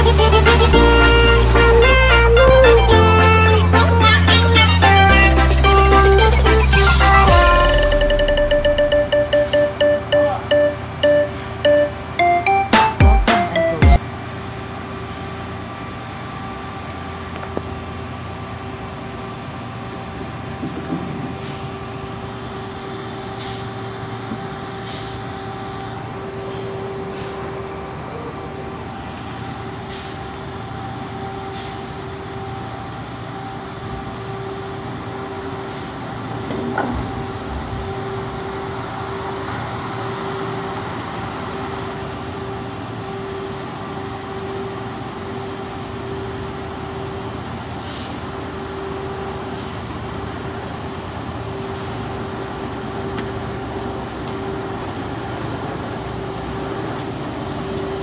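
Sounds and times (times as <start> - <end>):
lorry engine driving: 0.0 - 58.0
machinery drone: 0.0 - 58.0.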